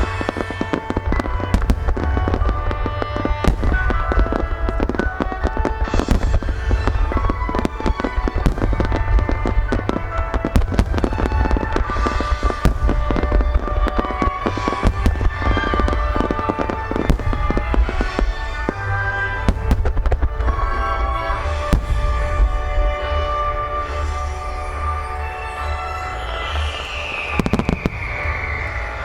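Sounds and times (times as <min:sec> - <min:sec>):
firework bursts and crackles: 0:00.0 - 0:29.0
music playing: 0:00.0 - 0:29.0.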